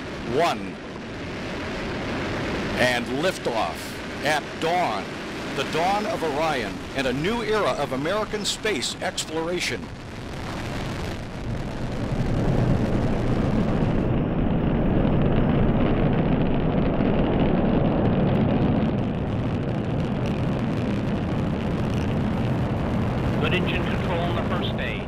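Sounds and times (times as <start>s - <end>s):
rocket engines rumbling: 0.0s - 25.0s.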